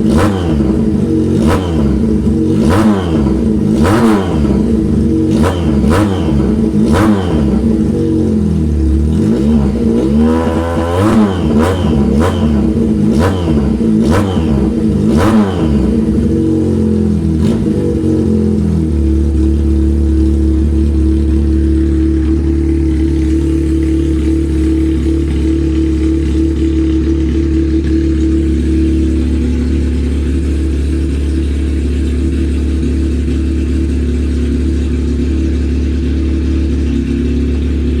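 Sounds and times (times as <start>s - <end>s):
car engine revving: 0.0s - 38.0s
exhaust cracks: 0.0s - 38.0s.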